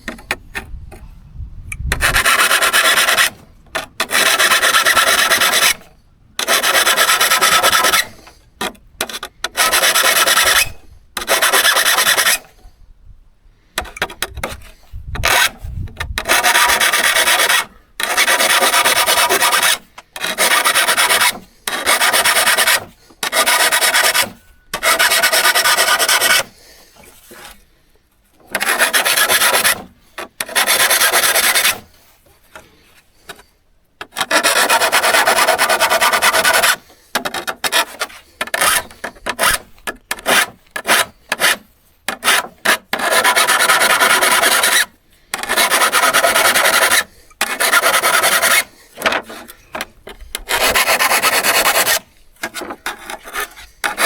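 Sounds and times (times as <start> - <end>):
rasping strokes on steel saw: 0.0 - 1.1, 1.7 - 12.7, 13.7 - 27.7, 28.4 - 54.0.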